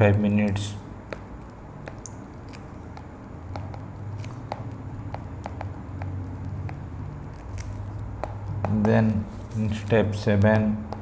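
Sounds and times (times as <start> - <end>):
stylus tapping on tablet screen: 1.0 - 11.0.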